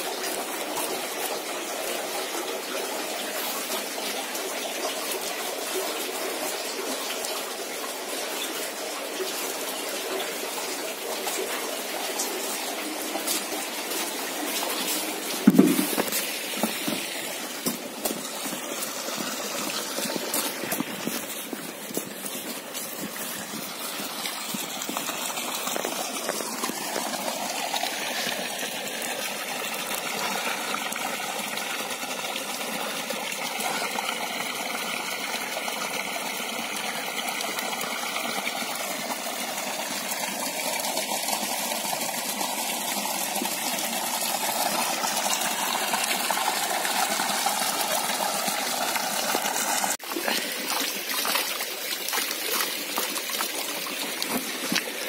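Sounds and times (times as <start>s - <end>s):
water pouring from a pipe: 0.0s - 55.0s.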